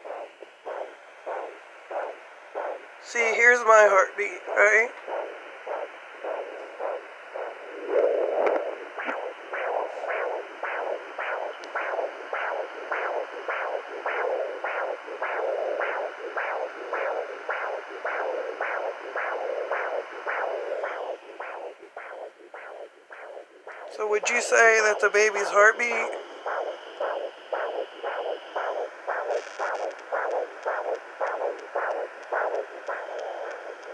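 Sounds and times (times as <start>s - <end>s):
doppler heartbeat whooshing pulses: 0.0s - 33.9s.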